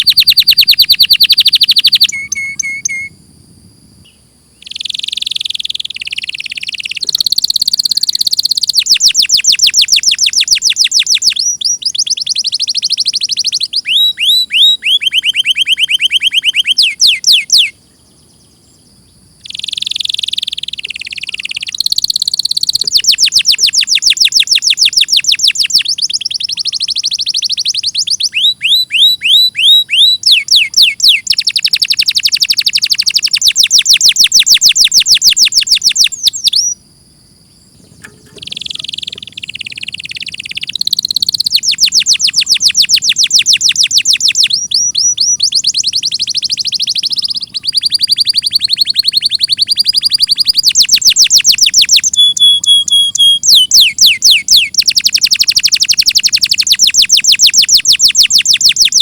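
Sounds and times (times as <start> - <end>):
canary singing trills: 0.0 - 36.8, 37.5 - 59.0.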